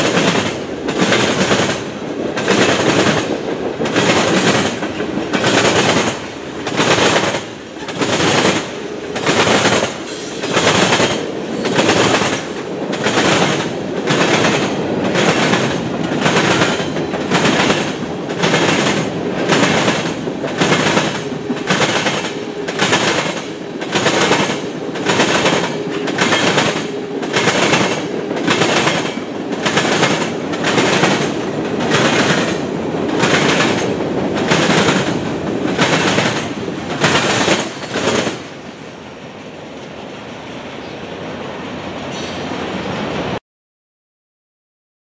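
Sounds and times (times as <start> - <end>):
train rumble: 0.0 - 43.4
train wheels clacking on track: 0.0 - 43.4.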